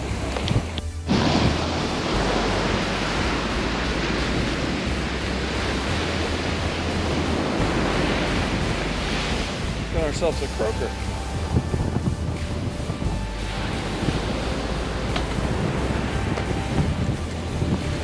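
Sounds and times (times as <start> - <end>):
ocean surf: 0.0 - 18.0
wind: 0.0 - 18.0.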